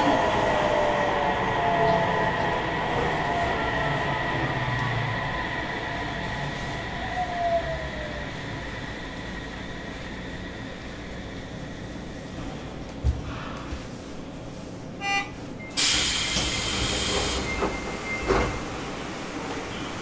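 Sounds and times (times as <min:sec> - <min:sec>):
train wheels rumbling: 0:00.0 - 0:14.4, 0:15.8 - 0:20.0.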